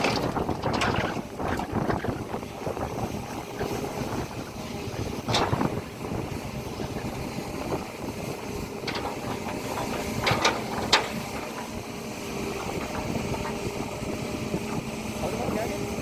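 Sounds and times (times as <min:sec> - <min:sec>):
excavator diesel engine: 0:00.0 - 0:16.0.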